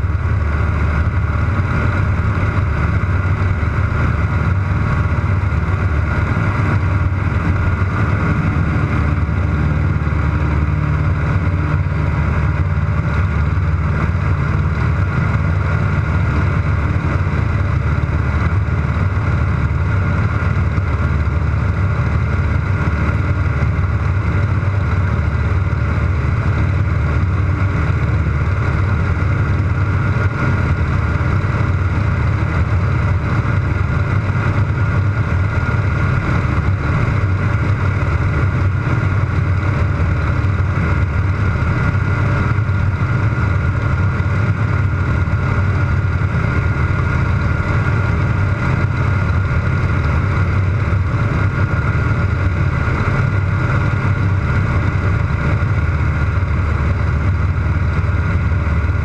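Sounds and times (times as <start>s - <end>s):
radial aircraft engine drone: 0.0s - 59.0s.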